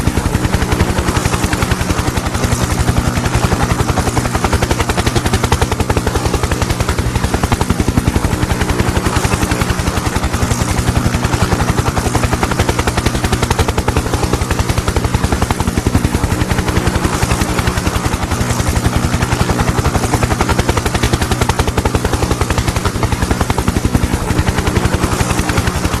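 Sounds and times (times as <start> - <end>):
helicopter engine drone: 0.0 - 26.0
helicopter rotor blade slap: 0.0 - 26.0.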